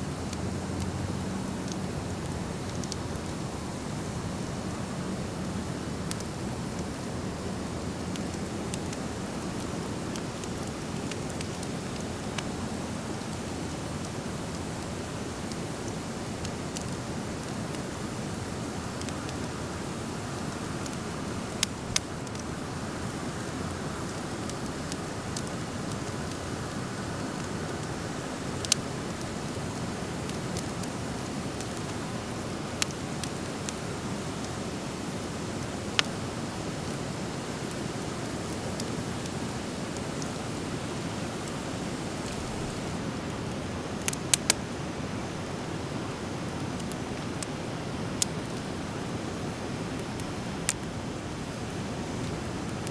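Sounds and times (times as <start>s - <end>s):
campfire hissing: 0.0s - 52.9s
fire crackling pops: 0.1s - 52.9s.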